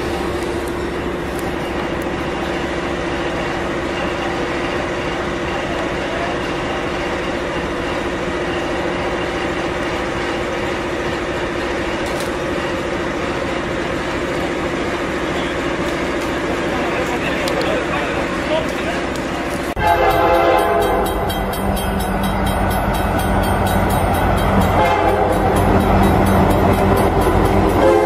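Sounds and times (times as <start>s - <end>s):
diesel locomotive droning: 0.0s - 28.0s.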